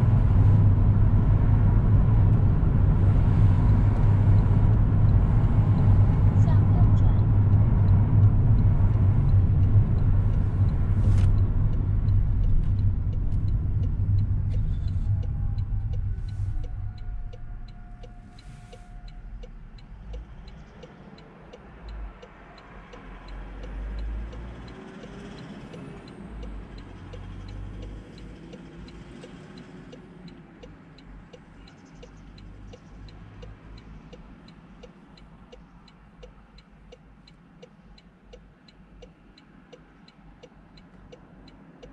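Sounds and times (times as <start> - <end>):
car road and engine noise: 0.0 - 41.9
faint ticking: 3.9 - 41.9.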